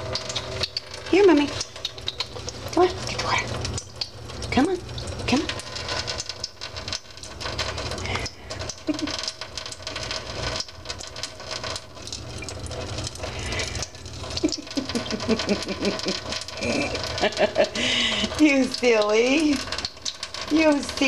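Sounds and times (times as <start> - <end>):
tap water spattering into metal sink: 3.6 - 21.0.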